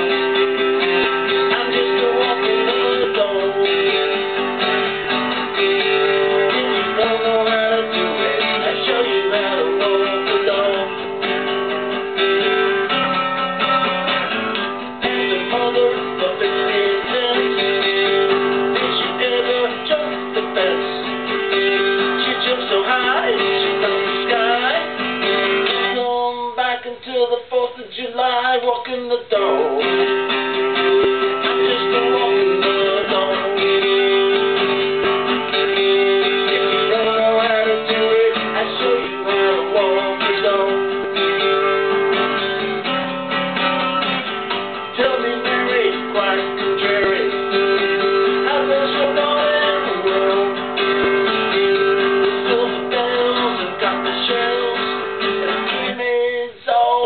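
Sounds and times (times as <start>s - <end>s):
acoustic guitar blues: 0.0s - 57.0s.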